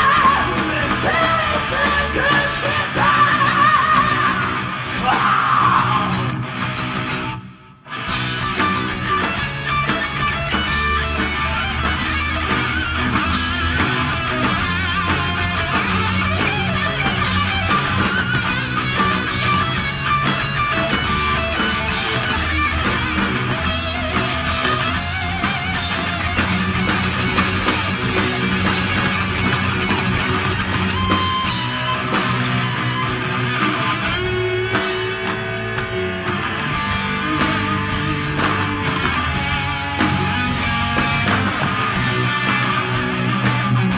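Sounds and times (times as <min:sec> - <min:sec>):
heavy metal band playing live: 0:00.0 - 0:43.9.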